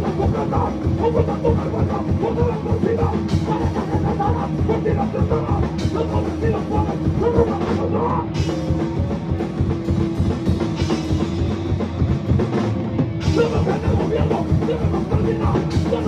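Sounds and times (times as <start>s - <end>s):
drum kit playing: 0.0s - 16.0s
electric guitar: 0.0s - 16.0s.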